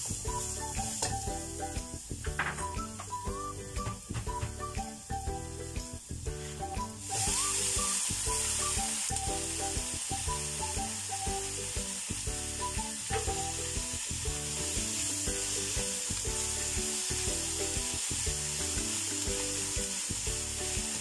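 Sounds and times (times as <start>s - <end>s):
vegetables sizzling in a wok: 0.0s - 21.0s.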